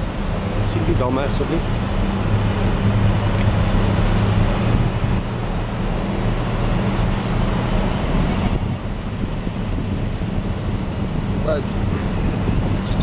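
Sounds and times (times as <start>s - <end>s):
broad rushing noise: 0.0s - 13.0s
heavy machinery engine hum: 0.0s - 13.0s.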